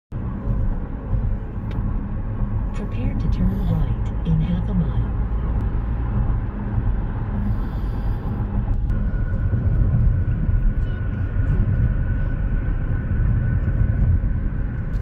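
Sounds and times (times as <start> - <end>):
car road noise: 0.1 - 15.0.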